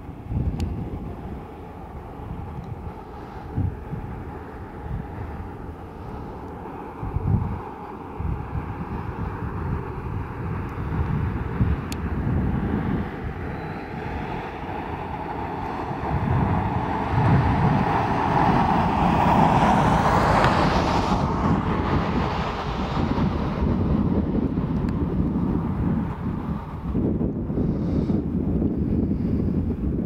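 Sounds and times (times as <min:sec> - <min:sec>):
wind buffeting the microphone: 0:00.0 - 0:30.0.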